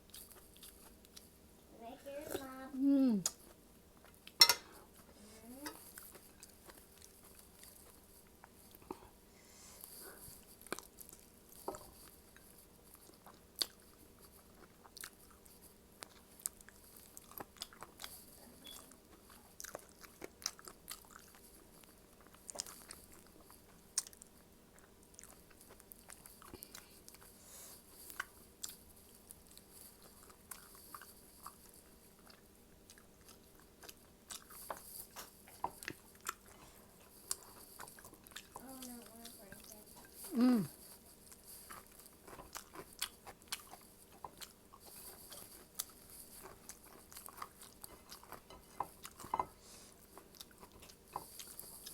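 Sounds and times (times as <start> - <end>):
crunchy chewing: 0.0 - 1.4, 3.2 - 9.1, 9.8 - 51.9.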